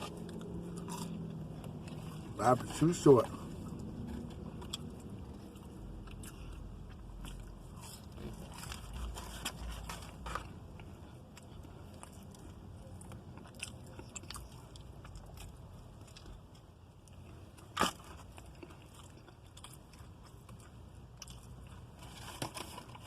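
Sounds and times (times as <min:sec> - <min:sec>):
person chewing fried food: 0:00.0 - 0:23.0.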